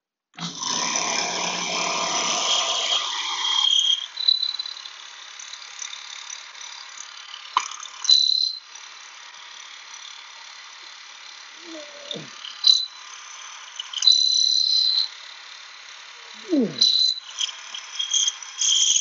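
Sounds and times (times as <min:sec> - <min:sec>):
power tool high whine: 0:00.4 - 0:19.0.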